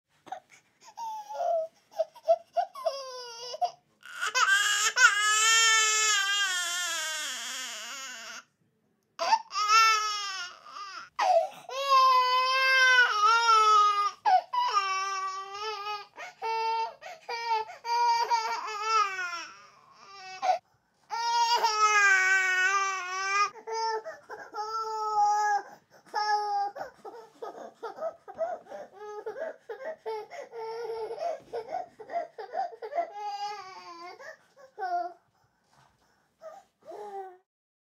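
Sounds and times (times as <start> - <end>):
baby crying: 0.3 - 8.5, 9.2 - 35.2.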